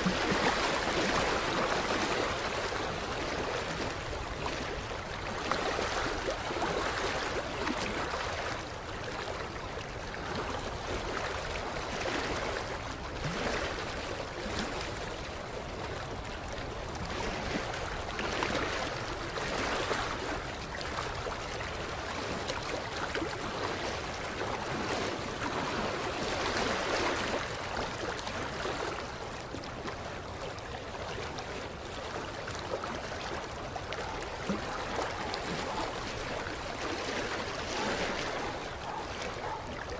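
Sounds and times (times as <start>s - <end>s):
creek water lapping on shore: 0.0s - 39.9s.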